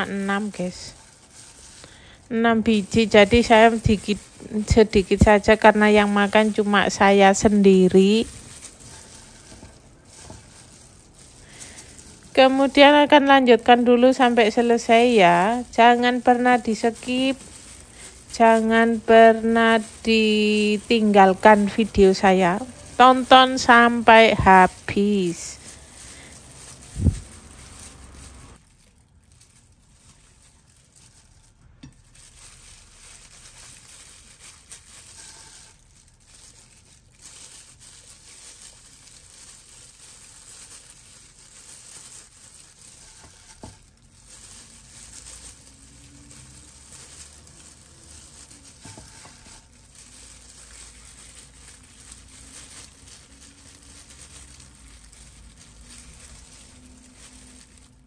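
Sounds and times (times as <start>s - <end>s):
plastic gloves crinkling: 0.0s - 58.0s
soft squishing of filling: 0.1s - 58.0s.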